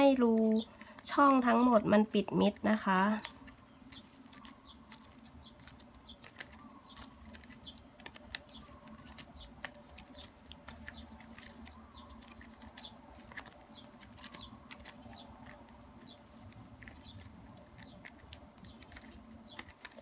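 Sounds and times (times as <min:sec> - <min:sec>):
ribbon strips rustling and crackling: 0:00.0 - 0:20.0.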